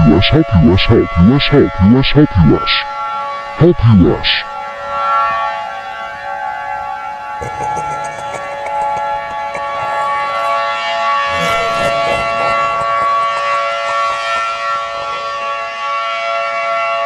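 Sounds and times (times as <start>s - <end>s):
warning siren drone: 0.0s - 17.0s.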